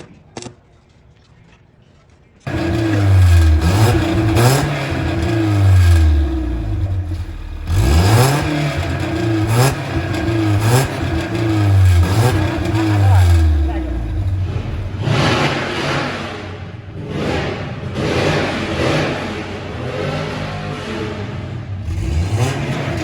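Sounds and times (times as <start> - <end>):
car engine revving: 2.5 - 23.0.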